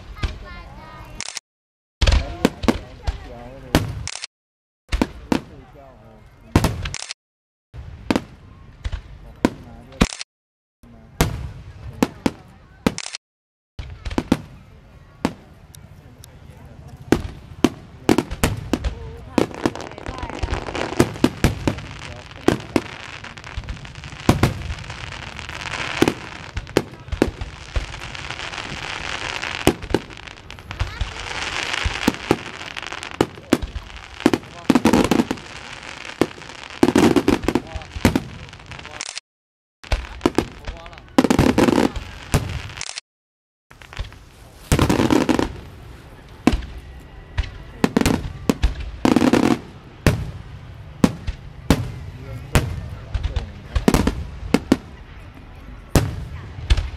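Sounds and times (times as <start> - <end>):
fireworks bangs: 0.0 - 1.3, 2.0 - 4.3, 4.9 - 7.2, 7.8 - 10.2, 10.9 - 13.2, 13.8 - 39.2, 39.8 - 43.0, 43.7 - 56.9
fireworks crackling and hiss: 0.0 - 1.4, 2.0 - 4.3, 4.9 - 7.2, 7.8 - 10.3, 10.9 - 13.2, 13.8 - 39.2, 39.8 - 43.0, 43.7 - 56.9.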